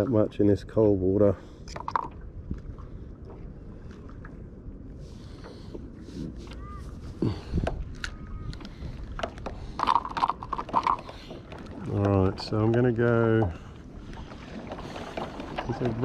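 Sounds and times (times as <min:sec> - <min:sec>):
water rumbling along hull: 0:00.0 - 0:16.0.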